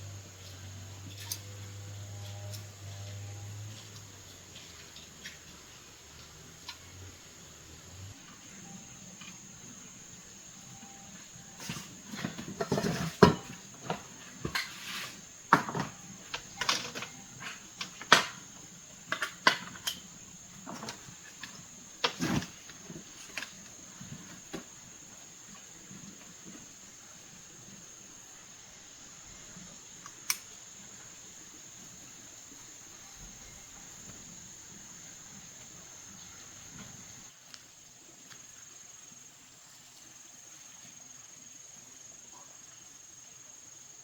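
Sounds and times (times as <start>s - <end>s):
faint high whine: 0.0s - 37.3s.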